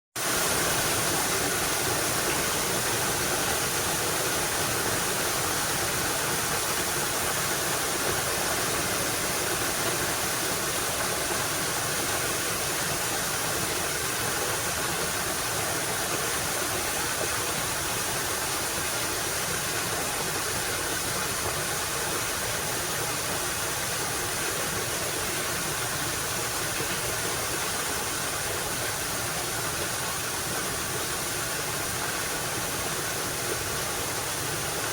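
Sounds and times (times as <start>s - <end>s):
river water rushing: 0.2s - 34.9s.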